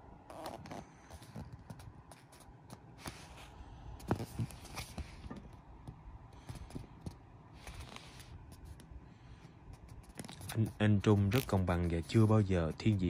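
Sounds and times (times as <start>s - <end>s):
paper rustling: 0.4s - 5.6s, 6.4s - 8.9s, 9.7s - 13.0s.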